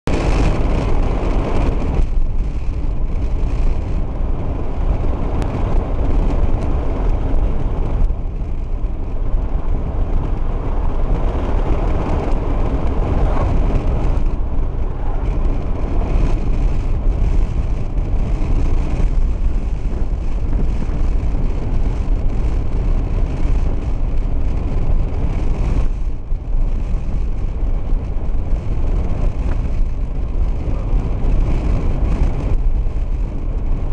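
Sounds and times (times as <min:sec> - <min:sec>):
road noise inside a car: 0:00.0 - 0:33.9.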